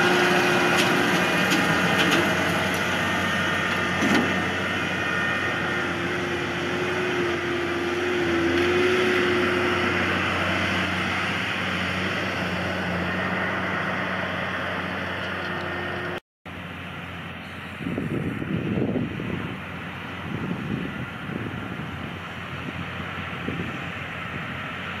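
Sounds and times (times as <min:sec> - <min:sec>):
steady whine: 0:00.0 - 0:24.0
tractor diesel engine under load: 0:00.0 - 0:25.0.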